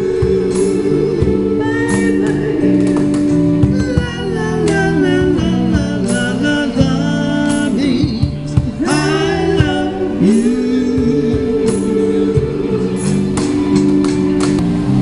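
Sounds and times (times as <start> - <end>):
person singing: 0.0 - 13.2
electric keyboard: 0.0 - 15.0
live band playing: 0.0 - 15.0.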